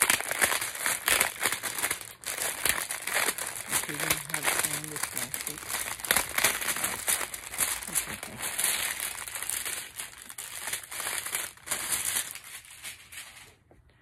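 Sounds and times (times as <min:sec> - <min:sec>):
plastic wrapping crinkling: 0:00.0 - 0:13.7.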